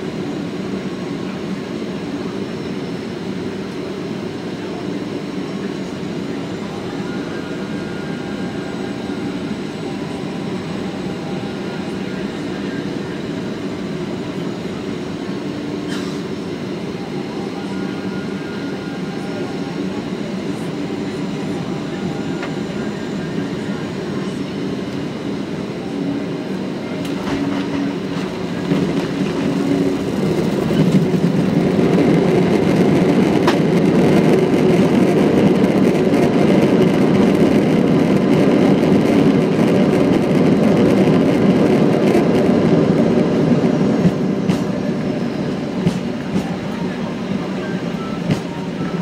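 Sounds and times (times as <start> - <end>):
aircraft engine and airflow hum: 0.0 - 49.0.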